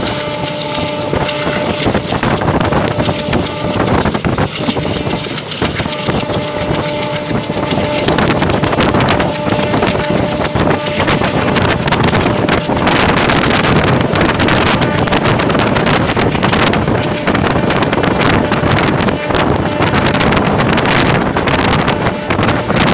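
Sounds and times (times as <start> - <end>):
train wheels clattering on track: 0.0 - 22.9
wind buffeting microphone: 0.0 - 22.9.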